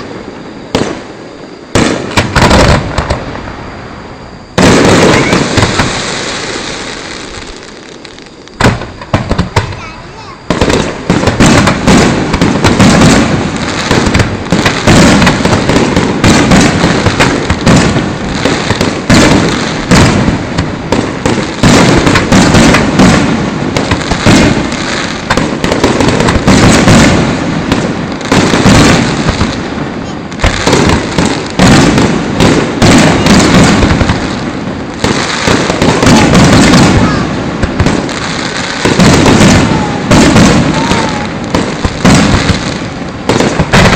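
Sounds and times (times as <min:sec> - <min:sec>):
fireworks bursts and crackling: 0:00.0 - 0:43.9.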